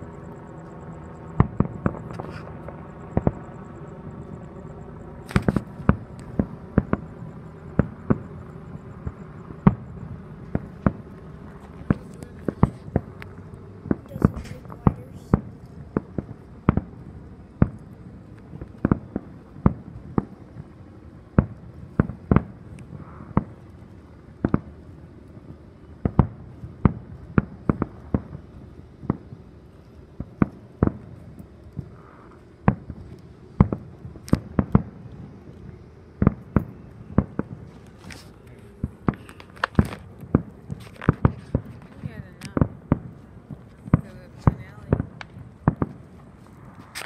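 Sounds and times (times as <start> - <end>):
fireworks bangs: 1.3 - 3.6, 5.2 - 47.0.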